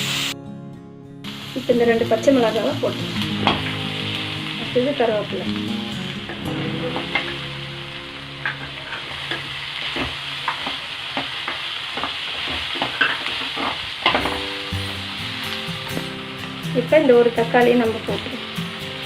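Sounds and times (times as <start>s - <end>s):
vegetables sizzling in hot oil: 0.0s - 0.4s, 1.3s - 19.0s.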